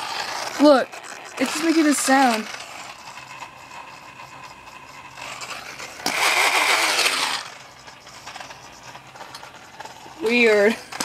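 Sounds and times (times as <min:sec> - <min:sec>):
small motor whirring: 0:00.0 - 0:11.0.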